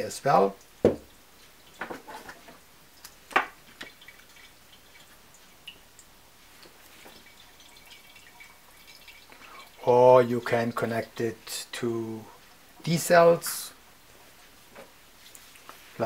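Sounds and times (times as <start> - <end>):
water trickling and dripping: 0.0 - 15.9.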